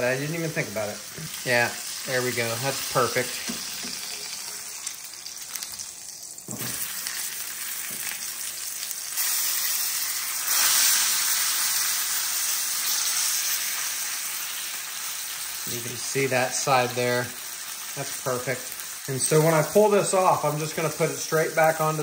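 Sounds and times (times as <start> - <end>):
meat sizzling in hot oil: 0.0 - 22.0.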